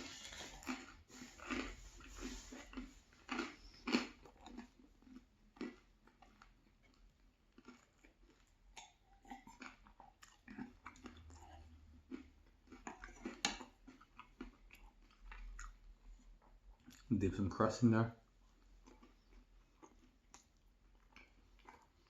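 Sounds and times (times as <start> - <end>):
close-up chewing: 0.0 - 17.1, 18.2 - 22.0
crunch while chewing: 0.0 - 17.1, 18.4 - 22.0.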